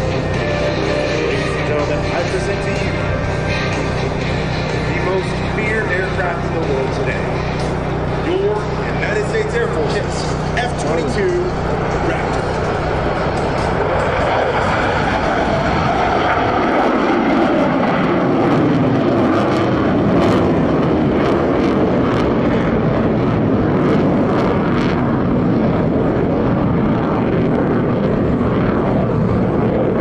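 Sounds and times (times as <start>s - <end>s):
loud crackling jet engine rumble: 0.0s - 30.0s.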